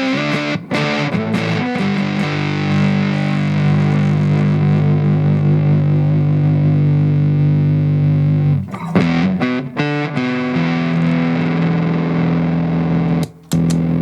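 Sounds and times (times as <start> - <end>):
fuzzed electric guitar: 0.0 - 14.0.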